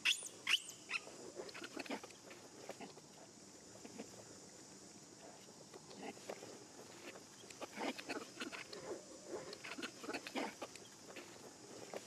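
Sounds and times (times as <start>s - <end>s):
soft crackling and rustling: 1.0s - 12.0s.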